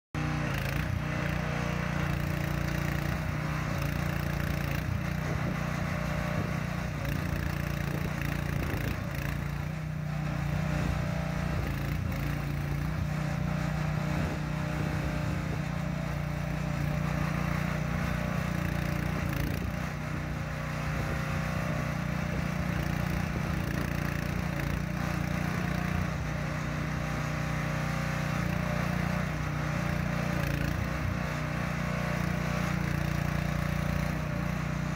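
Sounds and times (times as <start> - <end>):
mini excavator engine running: 0.2 - 34.9.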